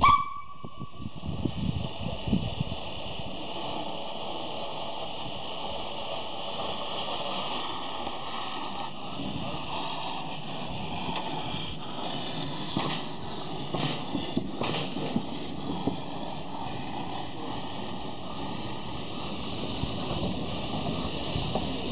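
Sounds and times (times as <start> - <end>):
steam locomotive hissing: 0.0 - 21.9.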